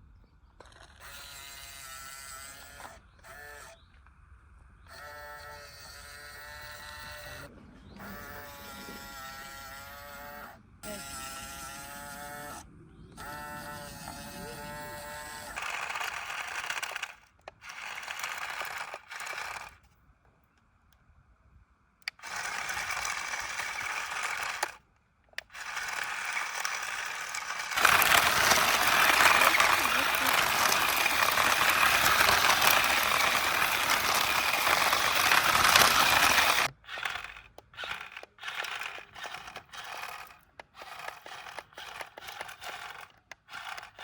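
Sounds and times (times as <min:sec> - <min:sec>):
small electric motors whirring: 0:00.5 - 0:20.0, 0:22.0 - 0:44.0.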